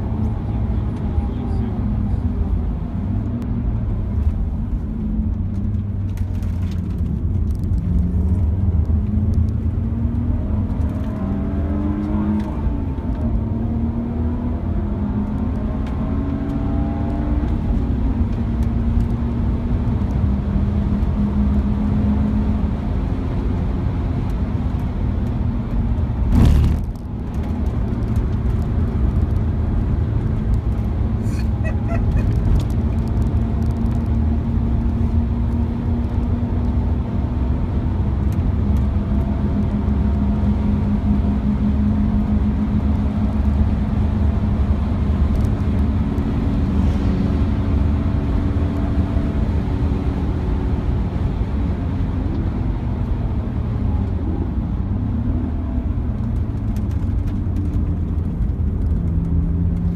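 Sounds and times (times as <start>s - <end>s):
car engine running hard: 0.0s - 59.9s
road and wind noise: 0.0s - 59.9s.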